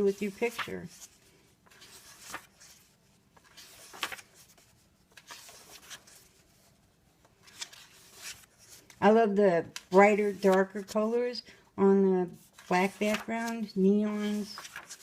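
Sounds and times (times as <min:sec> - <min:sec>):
paper pages rustling: 0:00.0 - 0:09.0, 0:09.7 - 0:11.2, 0:12.3 - 0:15.0.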